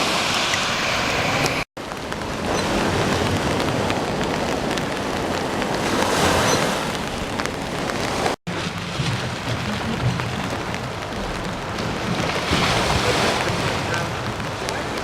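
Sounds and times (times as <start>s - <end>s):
choppy water splashing: 0.0s - 15.0s
wind on microphone: 0.0s - 15.0s.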